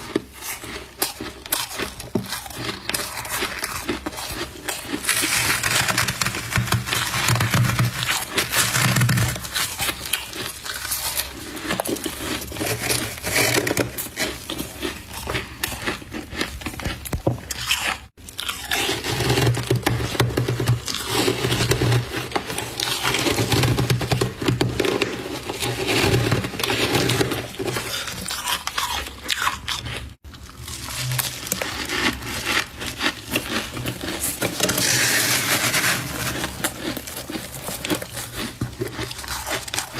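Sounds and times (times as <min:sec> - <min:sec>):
frost crunching being eaten: 0:00.0 - 0:39.9.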